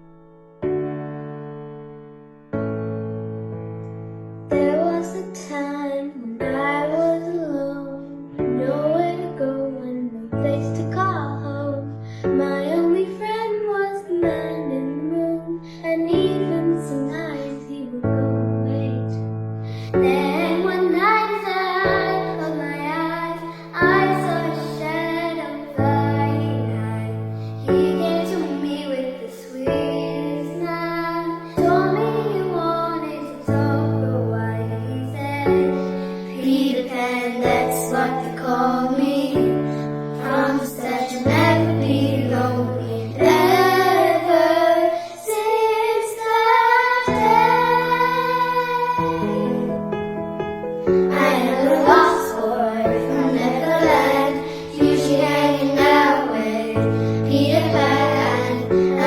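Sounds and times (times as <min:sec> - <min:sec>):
piano chords: 0:00.0 - 0:59.0
girls singing a pop ballad: 0:04.5 - 0:59.0.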